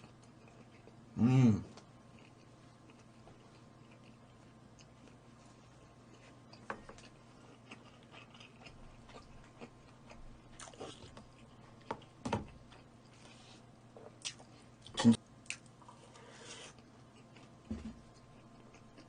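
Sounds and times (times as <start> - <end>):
person chewing food: 0.0 - 1.1, 1.7 - 19.0.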